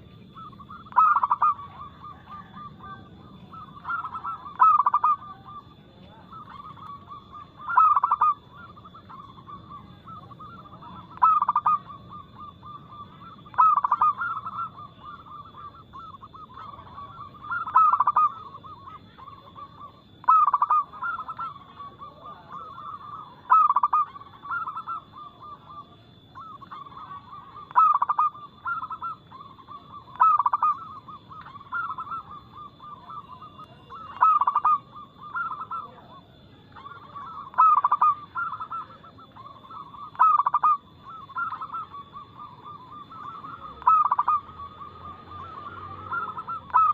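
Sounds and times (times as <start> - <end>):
dove song phrase: 0.0 - 46.9
doves cooing: 0.0 - 46.9
faint high-pitched whine: 0.0 - 46.9.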